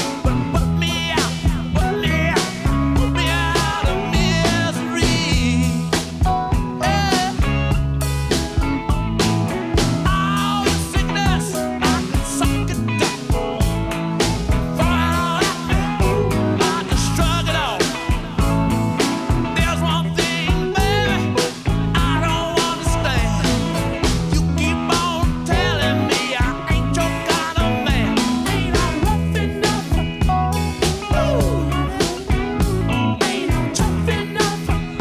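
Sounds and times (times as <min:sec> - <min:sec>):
rock music with singing: 0:00.0 - 0:35.0.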